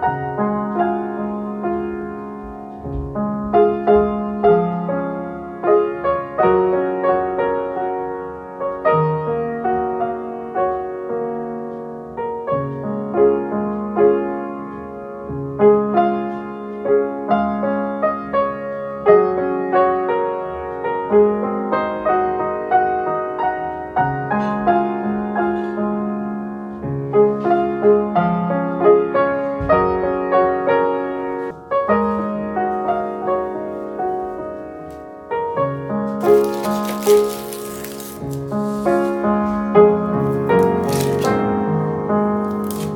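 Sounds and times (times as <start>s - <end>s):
slow solo piano: 0.0s - 42.9s.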